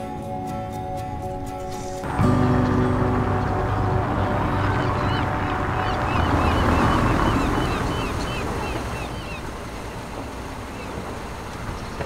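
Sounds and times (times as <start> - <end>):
broad rushing noise: 2.0 - 12.0.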